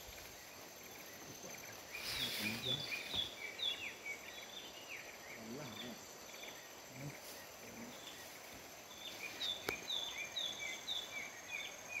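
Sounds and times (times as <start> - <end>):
high insect buzz: 0.0 - 12.0.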